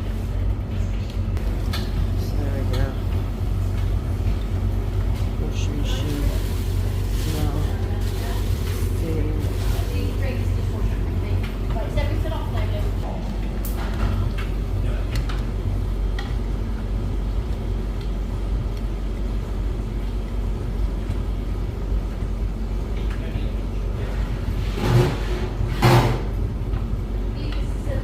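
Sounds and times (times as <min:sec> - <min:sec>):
washing machine hum: 0:00.0 - 0:28.0.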